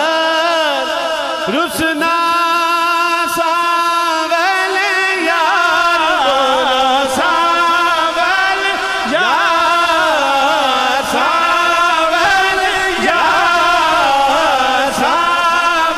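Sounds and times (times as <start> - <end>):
man singing devotional song: 0.0 - 15.9.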